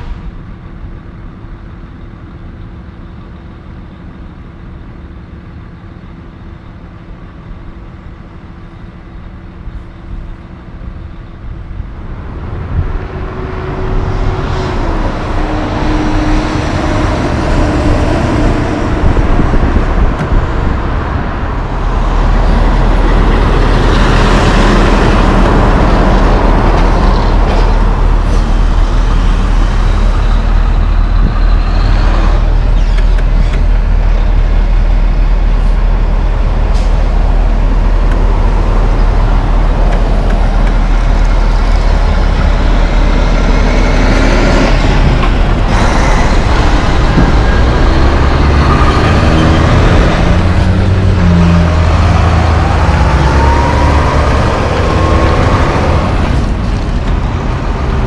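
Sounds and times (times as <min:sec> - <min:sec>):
engine hum: 0:00.0 - 0:58.0
heavy truck rumble: 0:00.0 - 0:58.0
vehicles driving by: 0:00.0 - 0:58.0.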